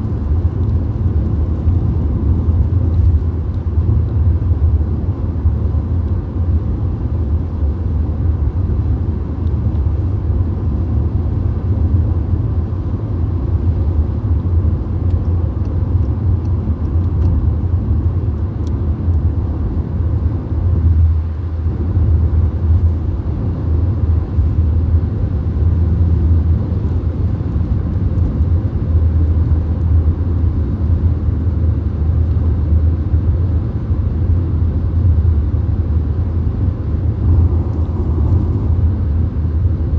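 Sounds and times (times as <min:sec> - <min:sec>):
car engine drone: 0:00.0 - 0:39.9
road and tyre noise: 0:00.0 - 0:39.9.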